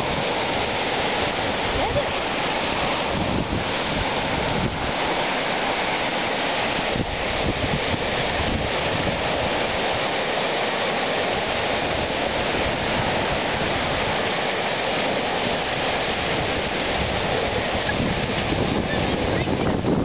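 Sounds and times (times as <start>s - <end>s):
small waves washing on shore: 0.0s - 20.0s
wind rumbling on microphone: 0.0s - 20.0s.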